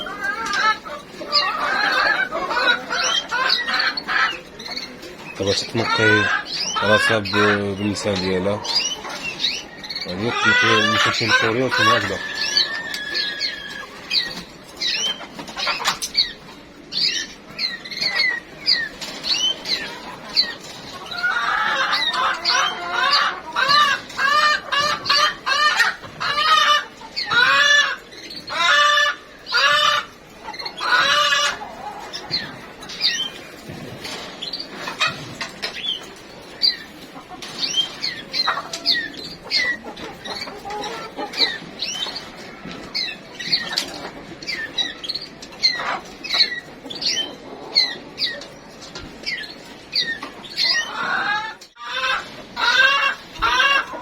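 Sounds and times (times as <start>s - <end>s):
cage birds chirping: 0.0s - 54.0s
chickens clucking: 0.0s - 54.0s.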